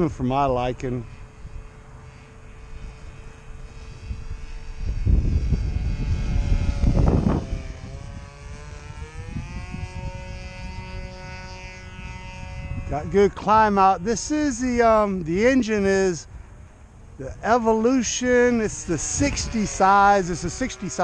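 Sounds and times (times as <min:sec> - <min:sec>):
distant model plane engine drone: 0:00.0 - 0:21.0.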